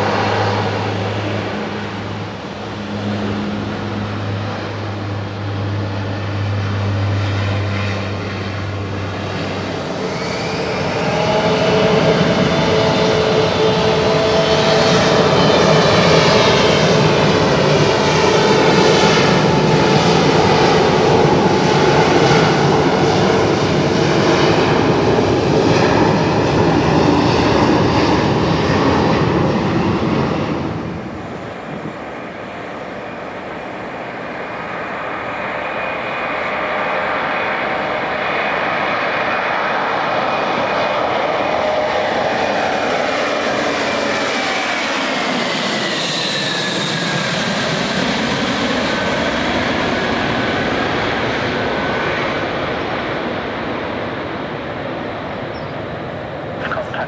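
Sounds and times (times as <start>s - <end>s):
jet airliner taking off: 0.0s - 57.0s.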